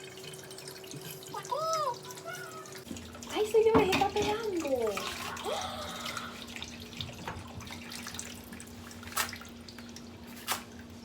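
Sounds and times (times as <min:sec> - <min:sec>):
tap running water: 0:00.0 - 0:10.9.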